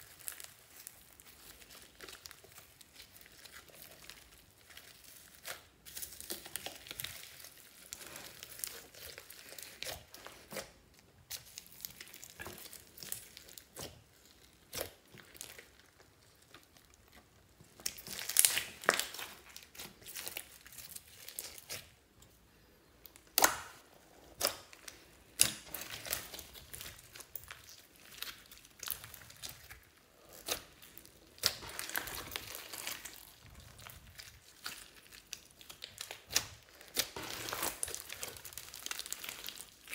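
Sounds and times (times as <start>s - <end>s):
slime crackling and tearing: 0.0s - 22.0s, 23.0s - 39.9s.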